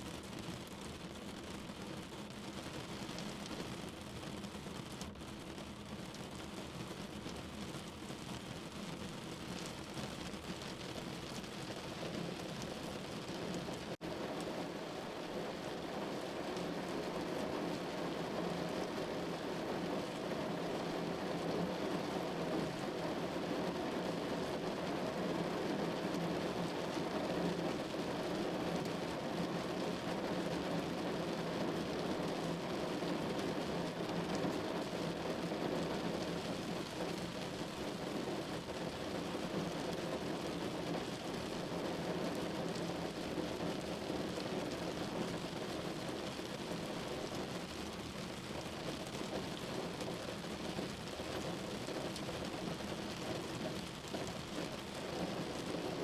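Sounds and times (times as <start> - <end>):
rain on a window: 0.0 - 56.0.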